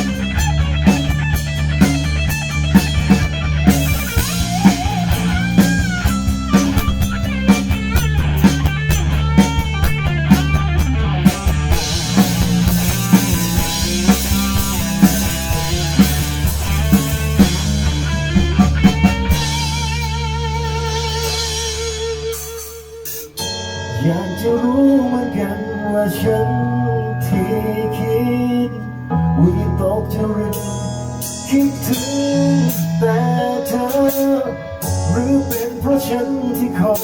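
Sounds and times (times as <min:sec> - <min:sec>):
rock band playing: 0:00.0 - 0:37.0.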